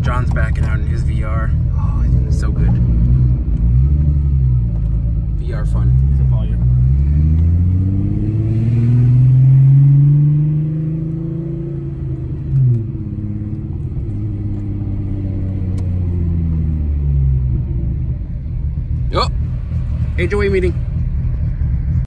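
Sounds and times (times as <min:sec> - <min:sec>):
car engine pulling away: 0:00.0 - 0:22.0.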